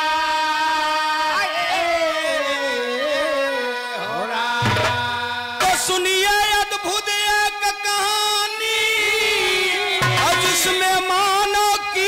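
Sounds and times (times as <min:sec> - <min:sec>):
man singing folk song: 0:00.0 - 0:12.0.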